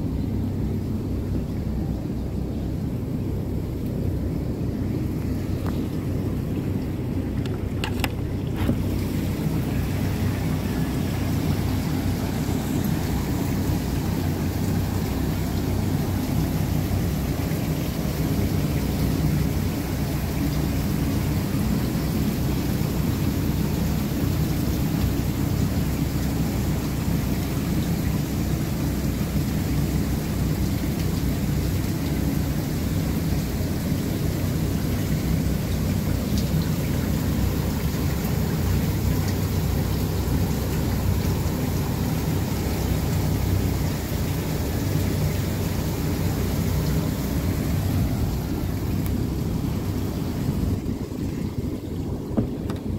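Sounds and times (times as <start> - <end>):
heavy low rumble: 0.0 - 52.9
water cascading and splashing: 0.0 - 52.9.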